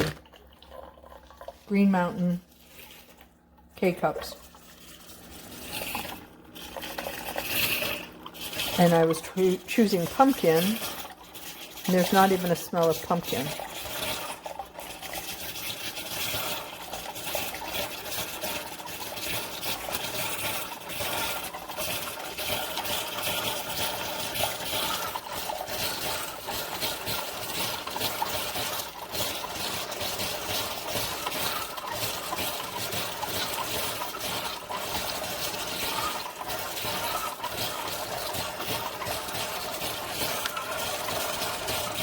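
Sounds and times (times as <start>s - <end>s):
coffee maker pump running: 0.0s - 42.0s
hot water streaming into cup: 0.0s - 42.0s.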